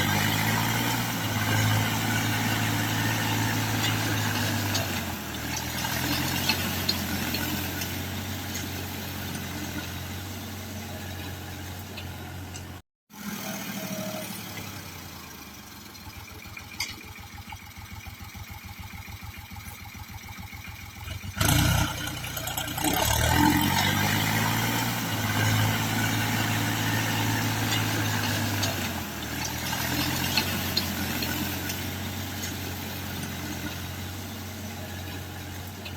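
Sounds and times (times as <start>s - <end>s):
tractor diesel engine idling: 0.0s - 35.9s
tractor engine revving: 0.0s - 35.9s.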